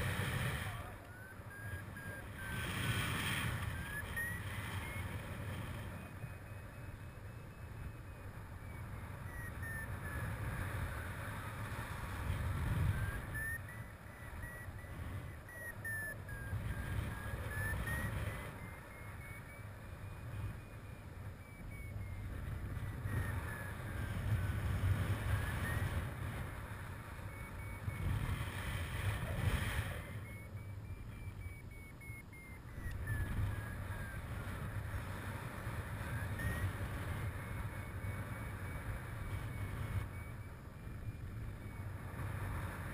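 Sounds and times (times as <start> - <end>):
variometer beeping: 0.0 - 42.9.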